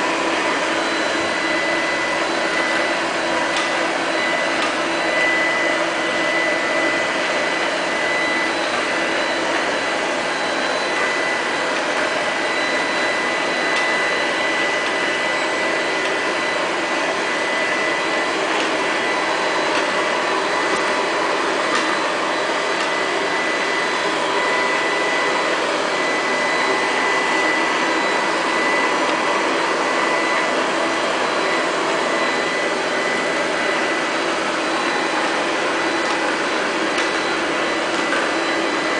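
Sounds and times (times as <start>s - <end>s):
thin high whine: 0.0s - 38.9s.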